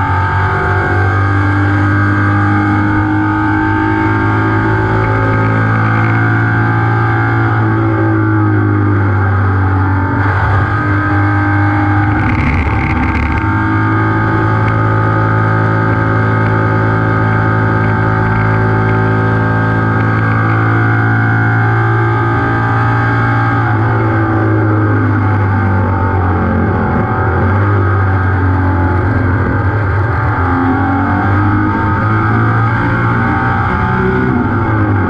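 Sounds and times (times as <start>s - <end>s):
car engine running at speed: 0.0s - 35.0s.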